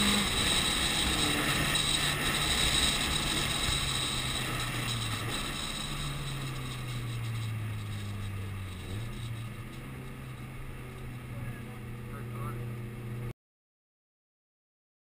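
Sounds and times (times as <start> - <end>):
car engine heard from cabin: 0.0 - 13.3.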